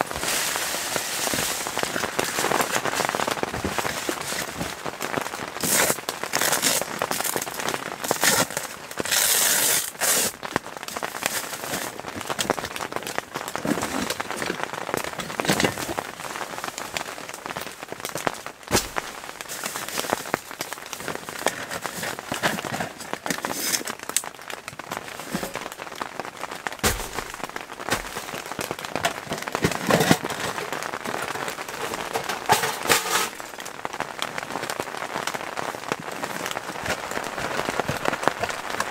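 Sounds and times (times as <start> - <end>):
plastic bag crinkling: 0.0 - 16.1, 17.0 - 33.8, 35.8 - 38.9
rain on tent fabric: 0.0 - 38.9.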